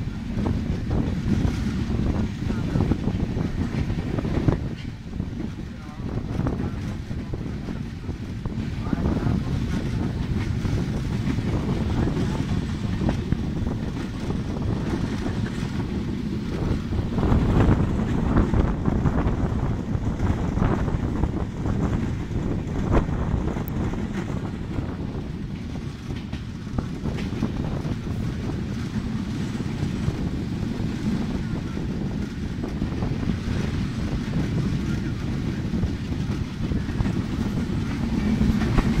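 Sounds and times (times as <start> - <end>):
train wheels rumbling on rails: 0.0 - 39.0
wind buffeting microphone: 0.0 - 39.0.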